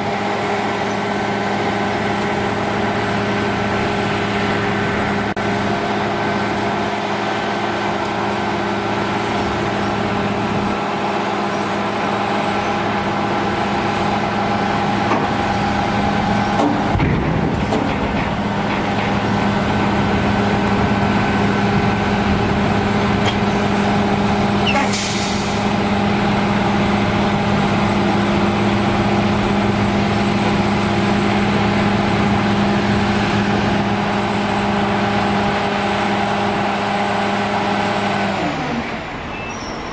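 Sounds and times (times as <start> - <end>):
large engine running: 0.0 - 39.7.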